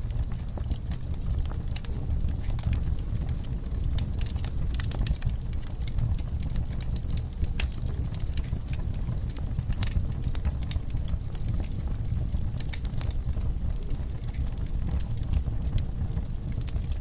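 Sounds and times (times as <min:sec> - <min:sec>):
fire crackling and popping: 0:00.0 - 0:17.0
low steady rumble: 0:00.0 - 0:17.0.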